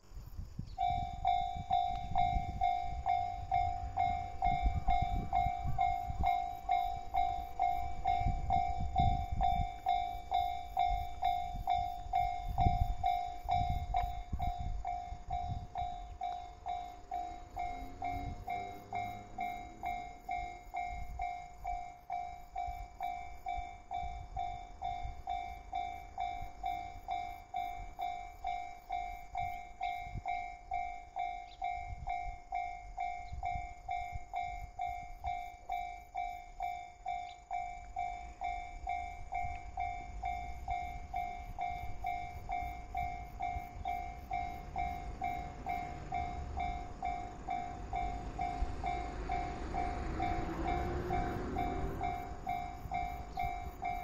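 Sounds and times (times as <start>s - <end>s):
level-crossing warning bell: 0.6s - 54.0s.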